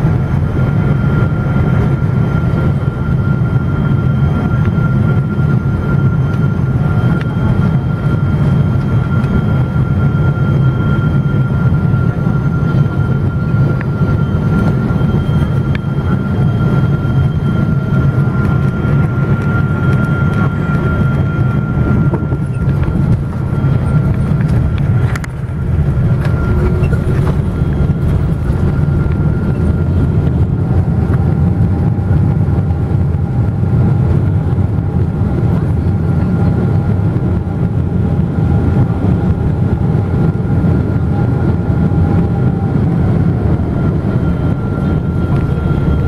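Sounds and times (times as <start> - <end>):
low rumble of engines and wheels: 0.0 - 46.0
thin steady whine: 0.0 - 46.0.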